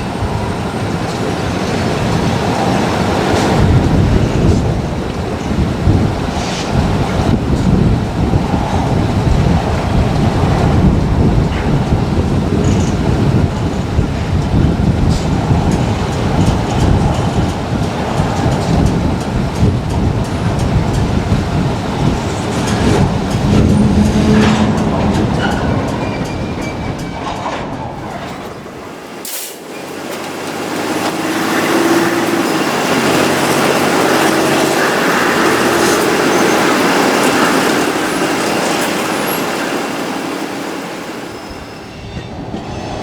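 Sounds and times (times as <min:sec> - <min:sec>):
freight train rumbling on rails: 0:00.0 - 0:43.0.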